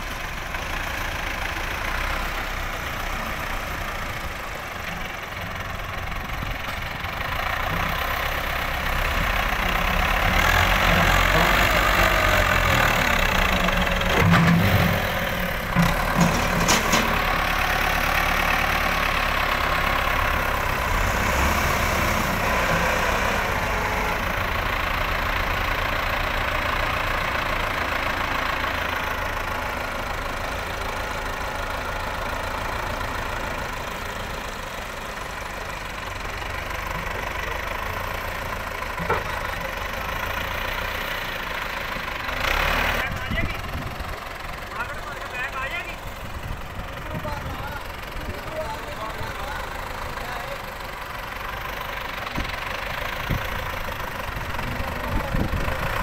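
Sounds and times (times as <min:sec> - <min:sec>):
diesel tractor engines idling: 0:00.0 - 0:56.0.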